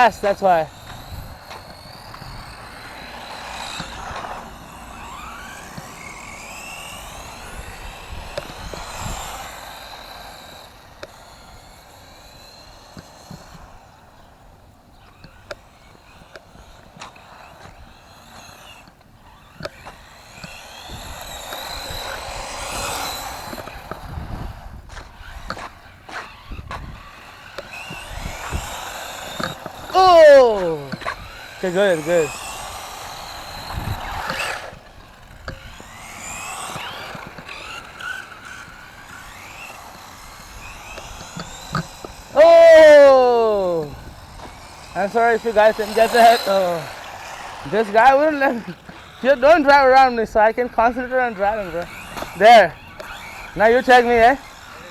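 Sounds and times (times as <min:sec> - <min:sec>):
toy truck electric motors whining: 0:00.0 - 0:54.9
tyre noise: 0:00.0 - 0:54.9.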